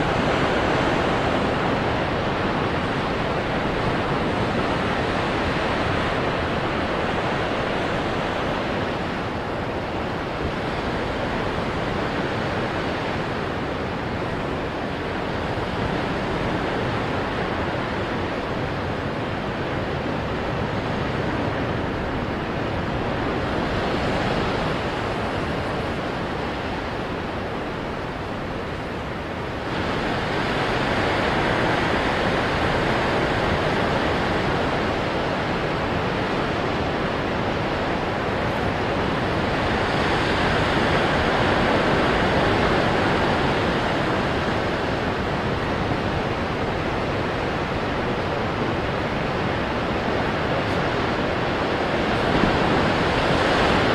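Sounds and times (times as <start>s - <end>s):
ocean waves breaking on rocks: 0.0s - 53.9s.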